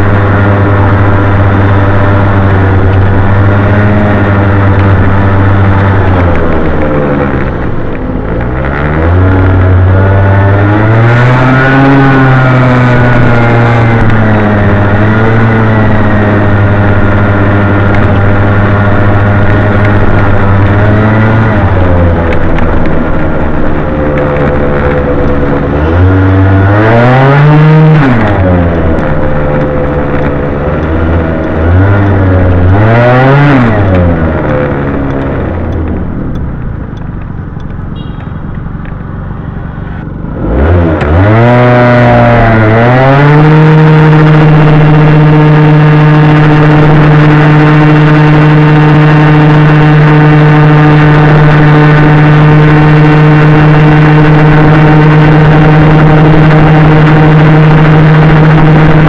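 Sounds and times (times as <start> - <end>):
scooter engine revving: 0.0 - 59.0.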